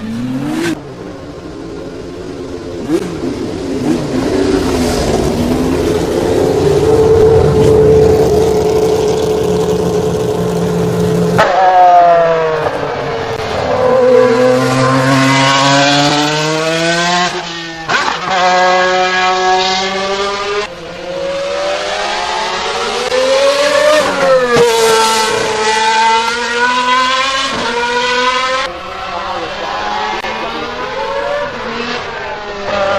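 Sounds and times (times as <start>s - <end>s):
racing car engine accelerating: 2.7s - 32.9s.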